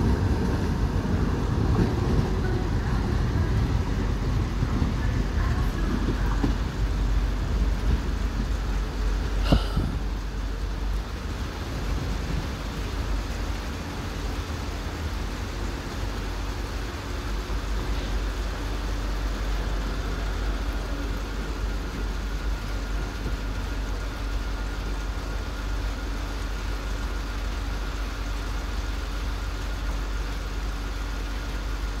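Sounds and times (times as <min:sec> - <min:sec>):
constant low hum: 0:00.0 - 0:32.0
train rumble: 0:00.0 - 0:32.0.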